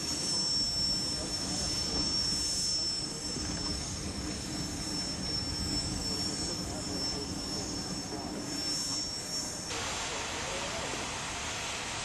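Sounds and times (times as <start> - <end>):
high whine: 0.0 - 10.5
steam engine rumble and hiss: 0.0 - 12.0.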